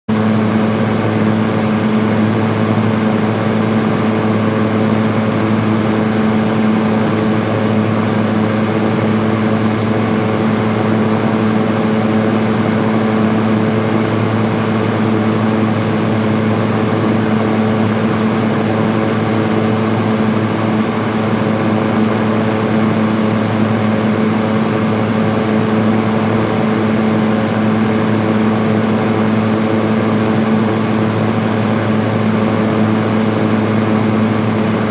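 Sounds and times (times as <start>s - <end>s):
electric fan whooshing: 0.1s - 34.9s
low fan motor hum: 0.1s - 34.9s.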